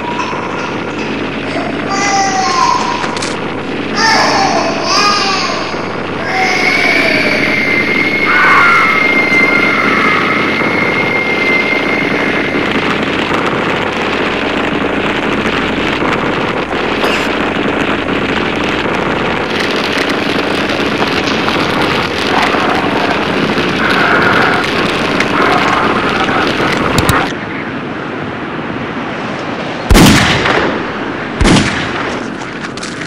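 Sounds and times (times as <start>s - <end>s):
aircraft engine drone: 0.0s - 33.0s
sharp crack: 0.9s - 27.4s, 29.9s - 33.0s.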